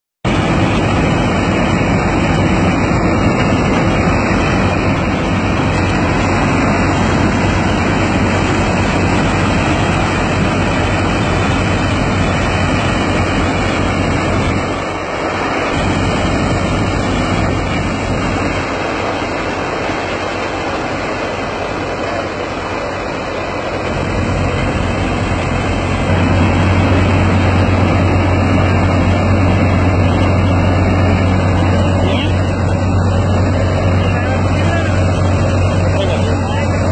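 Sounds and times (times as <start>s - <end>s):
combine harvester mechanical din: 0.3s - 36.9s.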